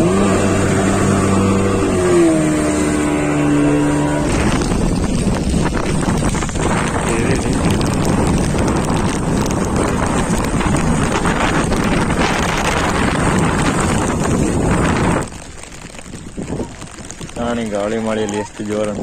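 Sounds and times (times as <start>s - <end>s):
rain and spray tapping: 0.0s - 19.0s
wind buffeting microphone: 0.0s - 19.0s.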